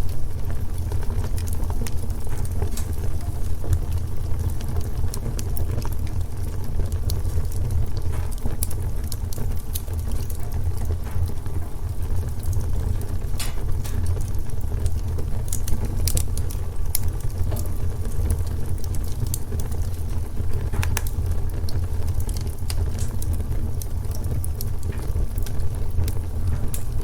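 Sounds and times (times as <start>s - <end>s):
wood fire burning in fireplace: 0.0s - 27.0s.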